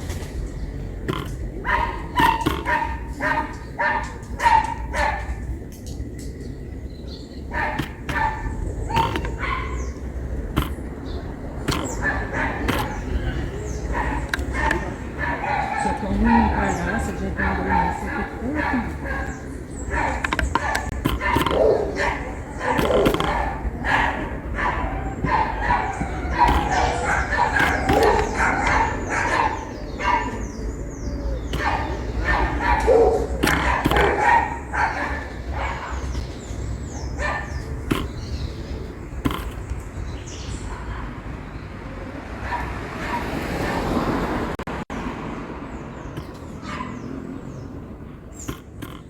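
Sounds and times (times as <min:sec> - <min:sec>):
bird calls: 0:00.0 - 0:44.4, 0:45.7 - 0:49.0
dog barking: 0:01.1 - 0:05.6, 0:07.4 - 0:39.6, 0:40.5 - 0:41.4, 0:42.4 - 0:44.0, 0:46.2 - 0:47.6.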